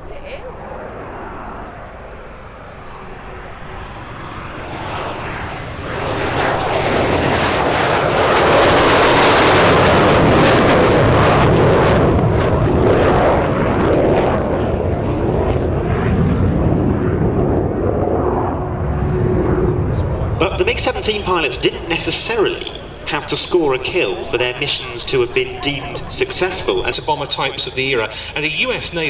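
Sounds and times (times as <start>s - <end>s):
jet fighter flying by: 0.0s - 29.0s.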